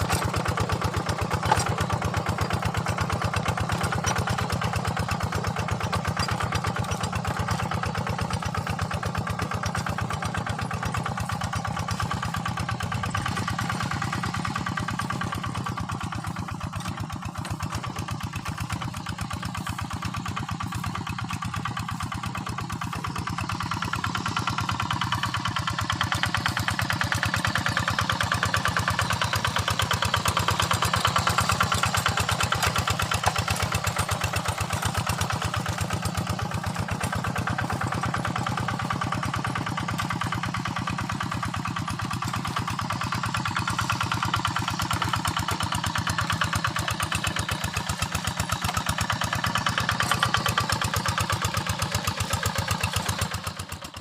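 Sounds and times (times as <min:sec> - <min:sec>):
hand tractor engine running: 0:00.0 - 0:54.0.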